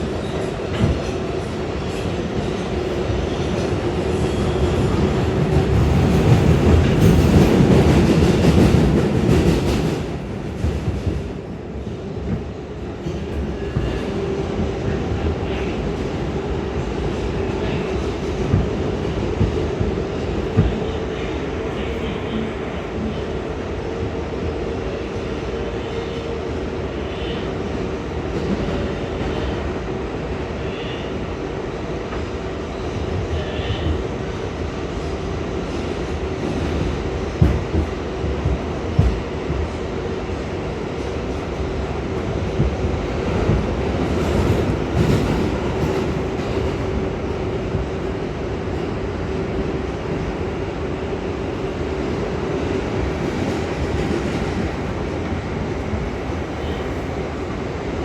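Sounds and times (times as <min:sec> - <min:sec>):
train hum: 0:00.0 - 0:58.0
train wheels rumbling on rail: 0:00.0 - 0:58.0.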